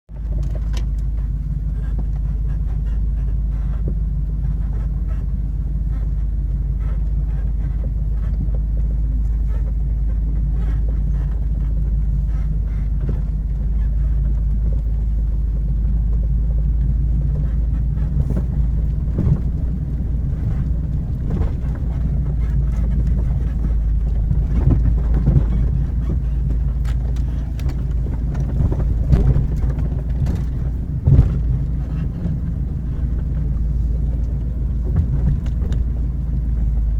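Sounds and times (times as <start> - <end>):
vehicle engine droning at low revs: 0.1 - 36.9
knocks and rattles: 0.3 - 36.9.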